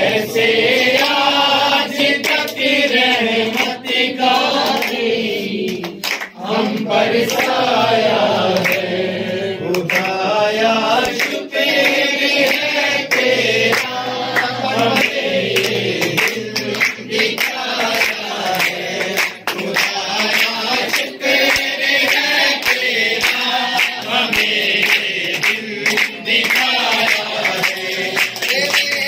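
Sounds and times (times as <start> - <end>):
group of people singing: 0.0 - 29.0.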